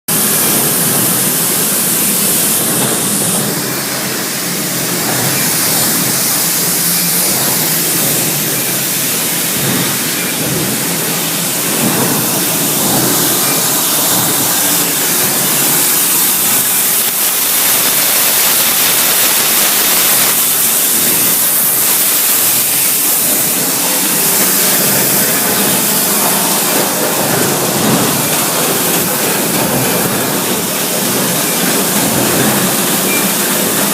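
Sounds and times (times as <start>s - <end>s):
factory machinery hissing: 0.1s - 33.9s.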